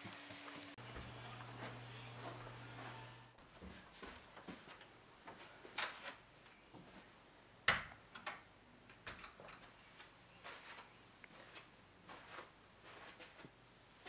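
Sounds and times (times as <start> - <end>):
soft footsteps: 0.0 - 7.2, 9.6 - 14.0.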